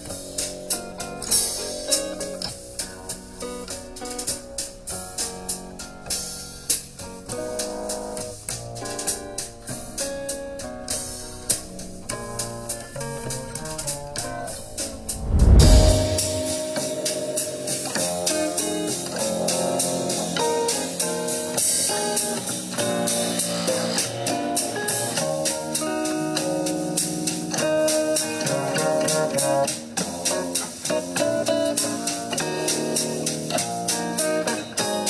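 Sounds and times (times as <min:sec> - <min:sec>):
guitar: 0:00.0 - 0:35.0.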